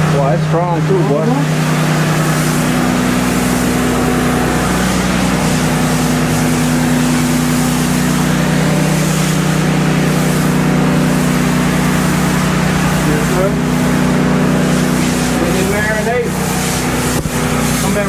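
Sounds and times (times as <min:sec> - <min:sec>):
pressure washer engine running: 0:00.0 - 0:18.0
water spray hissing: 0:00.2 - 0:18.0.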